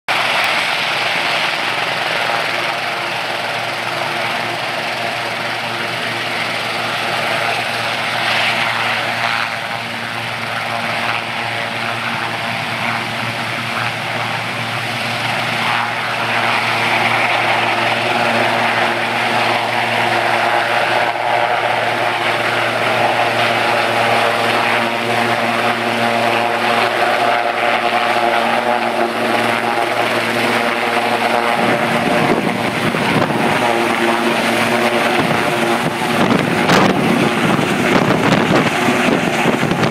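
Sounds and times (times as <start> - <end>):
helicopter turbines and rotor: 0.1 - 39.9.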